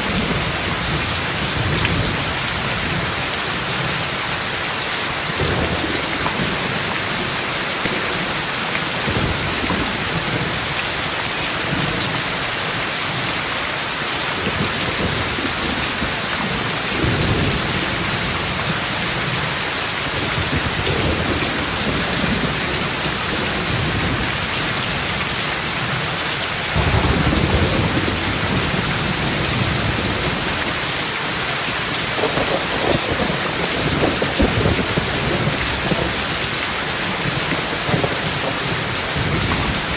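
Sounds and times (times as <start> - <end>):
heavy rain falling: 0.0 - 39.9
thunder rumbling: 5.3 - 12.5, 14.4 - 39.9.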